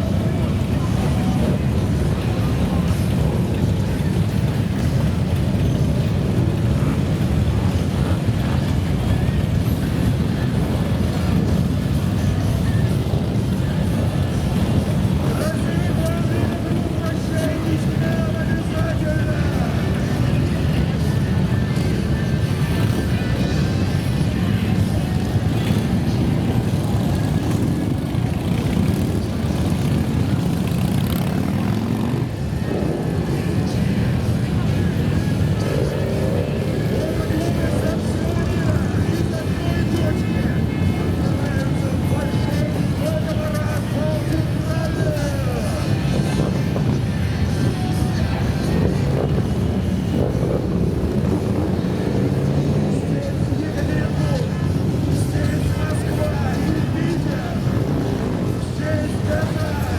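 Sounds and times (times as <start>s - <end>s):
motorcycle engines rumbling: 0.0s - 59.9s.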